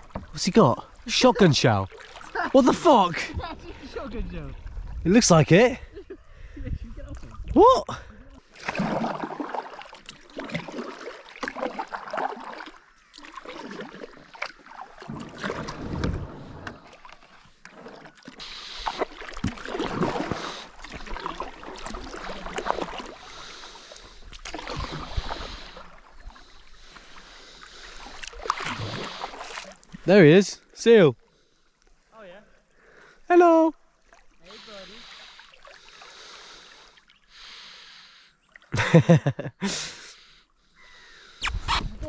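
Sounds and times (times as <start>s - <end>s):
paddle splashing in water: 0.0s - 5.0s, 8.4s - 30.1s, 31.4s - 38.9s.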